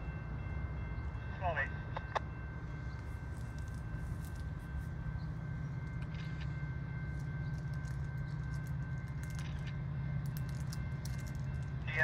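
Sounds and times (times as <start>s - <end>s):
distant diesel locomotive drone: 0.0s - 12.0s.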